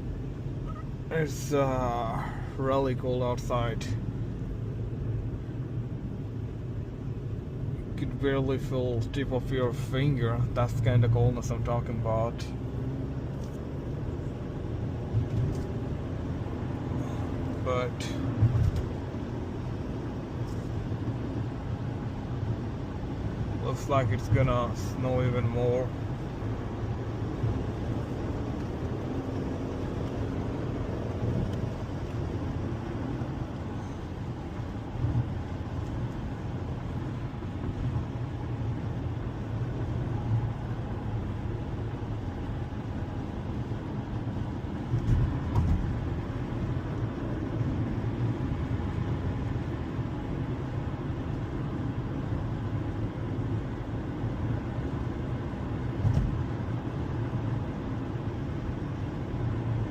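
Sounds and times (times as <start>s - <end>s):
car cabin rumble: 9.8s - 59.9s.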